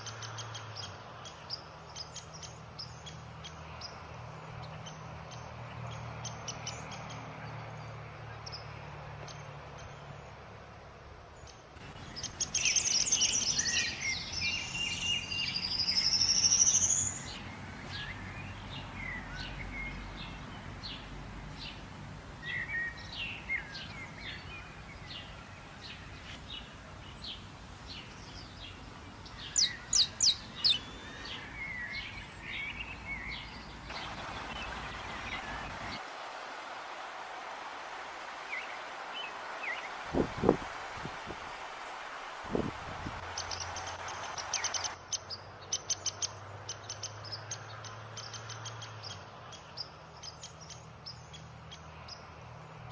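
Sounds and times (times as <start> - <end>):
wild birds singing: 0.0 - 36.1, 38.3 - 52.9
natural background hiss: 0.0 - 52.9.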